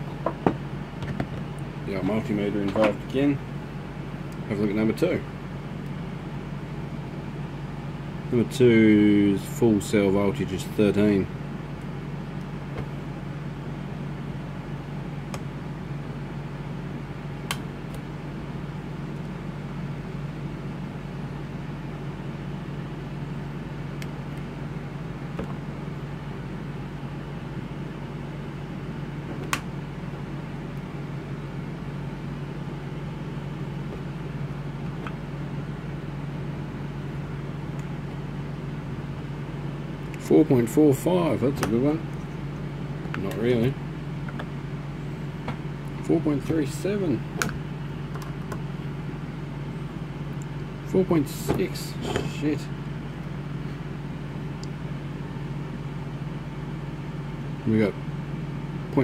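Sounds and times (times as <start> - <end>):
low equipment hum: 0.0 - 59.0.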